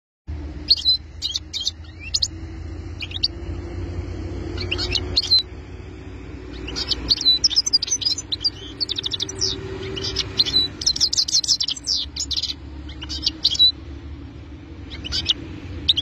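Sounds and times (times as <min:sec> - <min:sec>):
goldfinch twittering: 0:00.6 - 0:03.4, 0:04.4 - 0:05.6, 0:06.4 - 0:14.0, 0:14.8 - 0:16.0.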